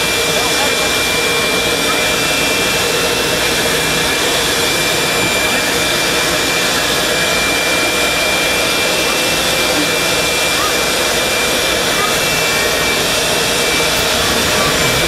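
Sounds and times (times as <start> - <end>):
aircraft turbine whining: 0.0 - 15.0.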